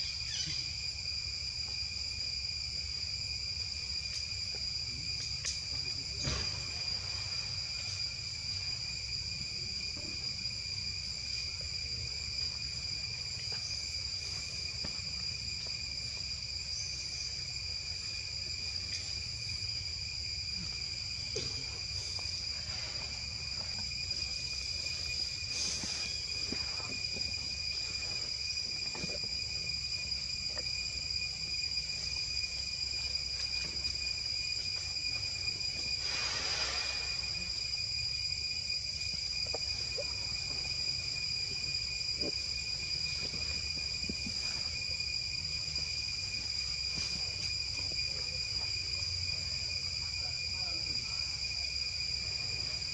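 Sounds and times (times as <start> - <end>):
insect chorus whine: 0.0 - 52.9.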